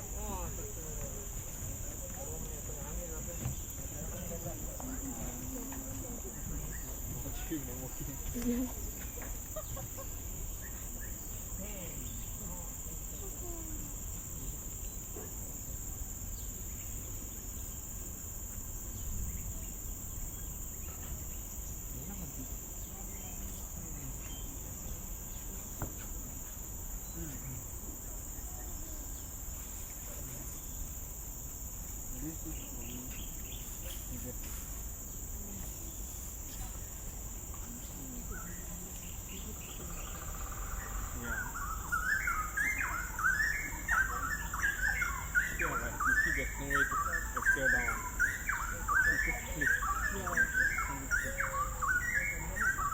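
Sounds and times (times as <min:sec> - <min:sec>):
insect chorus drone: 0:00.0 - 0:52.9.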